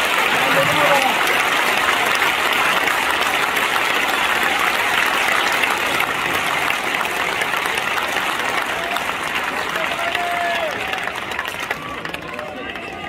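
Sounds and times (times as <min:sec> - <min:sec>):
stadium crowd applauding: 0:00.0 - 0:13.0.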